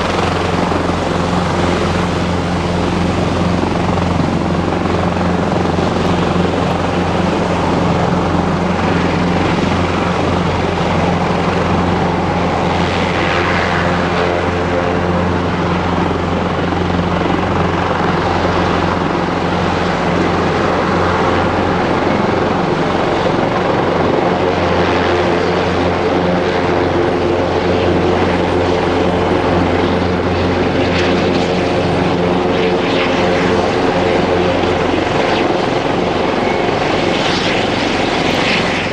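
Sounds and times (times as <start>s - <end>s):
helicopter engines and rotor: 0.0s - 38.9s.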